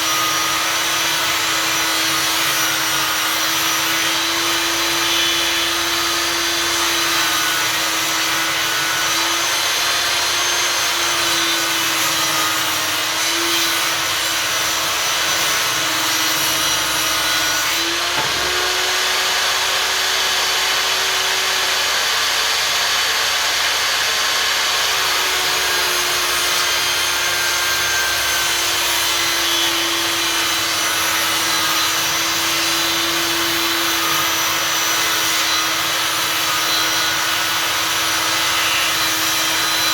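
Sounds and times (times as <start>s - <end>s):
table saw cutting wood: 0.0s - 39.9s.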